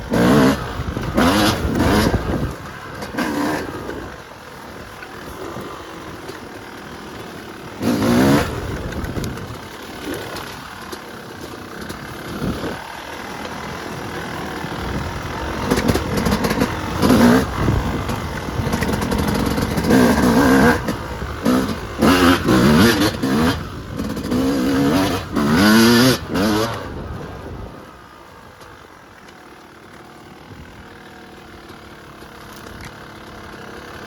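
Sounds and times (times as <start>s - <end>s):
dirt bike engine revving: 0.0s - 28.6s.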